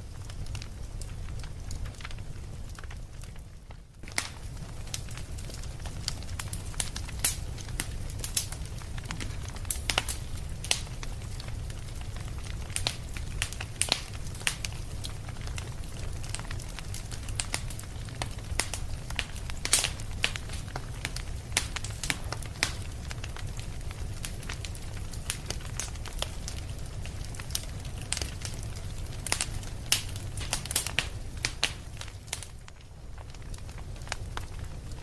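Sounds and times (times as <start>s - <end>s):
fire crackling and popping: 0.0s - 35.0s
low fire rumble: 0.0s - 35.0s.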